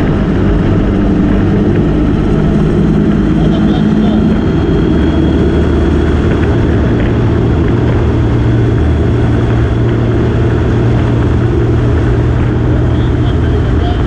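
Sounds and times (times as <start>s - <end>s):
motorcycle engine droning: 0.0s - 14.0s
rushing wind noise: 0.0s - 14.0s.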